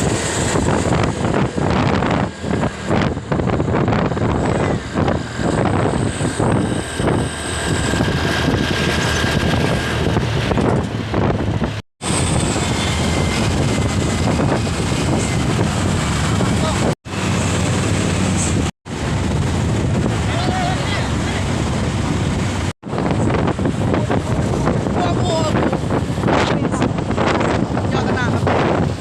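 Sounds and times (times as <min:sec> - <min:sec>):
diesel truck engine at full throttle: 0:00.0 - 0:29.0
wind buffeting microphone: 0:00.0 - 0:29.0.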